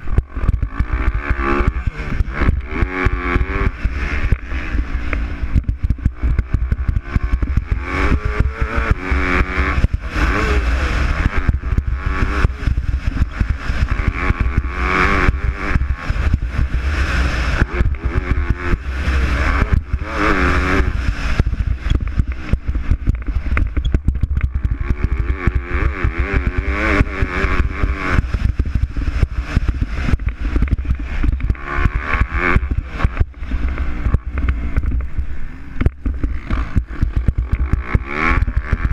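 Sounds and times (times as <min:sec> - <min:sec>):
low rumble and clatter: 0:00.0 - 0:38.9
motocross bikes revving: 0:00.0 - 0:38.9.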